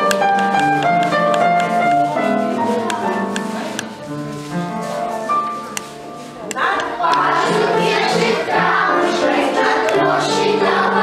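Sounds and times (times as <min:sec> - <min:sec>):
piano melody over chords: 0:00.0 - 0:11.0.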